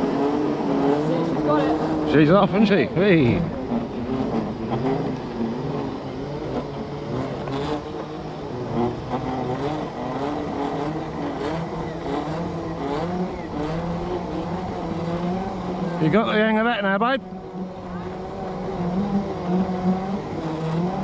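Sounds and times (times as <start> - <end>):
electric motors whining: 0.0 - 21.0
tyres rumbling on dirt track: 0.0 - 21.0.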